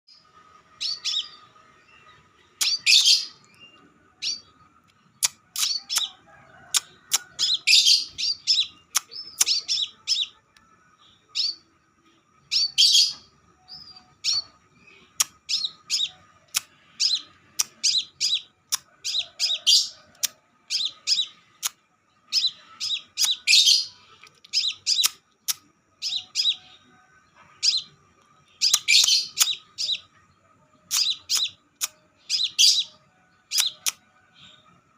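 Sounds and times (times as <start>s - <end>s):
bird chirping and trilling: 0.1s - 34.6s.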